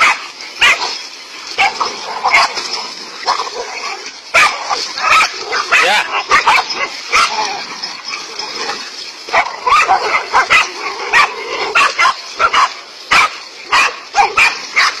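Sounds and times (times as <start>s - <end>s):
dogs barking: 0.0s - 15.0s
dogs yipping and growling: 0.0s - 15.0s.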